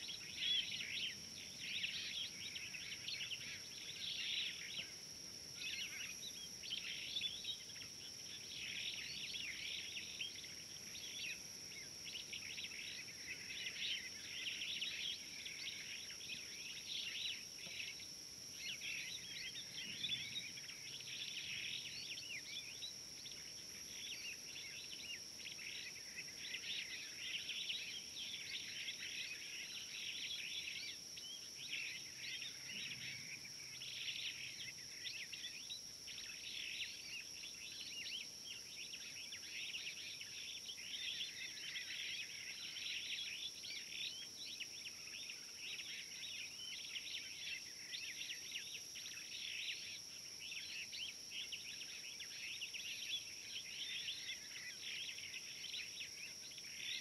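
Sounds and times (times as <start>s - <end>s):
chorus of bird chirps: 0.0s - 57.0s
steady high-pitched whine: 0.0s - 57.0s.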